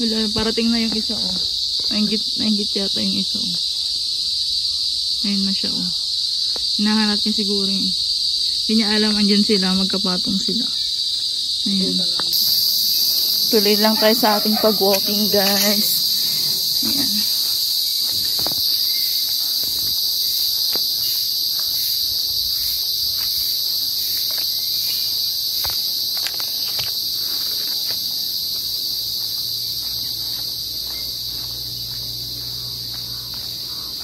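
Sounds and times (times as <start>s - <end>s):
insect chorus drone: 0.0s - 34.0s.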